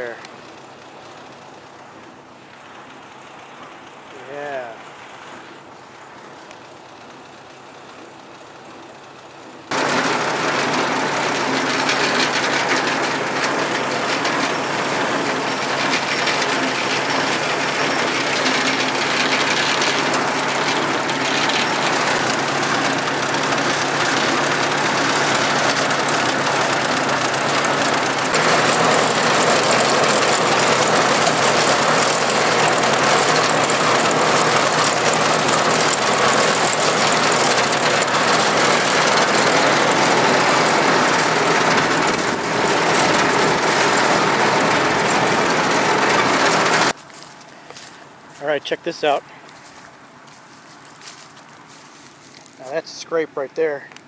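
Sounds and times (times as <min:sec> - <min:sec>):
tractor engine running: 0:05.4 - 0:54.0.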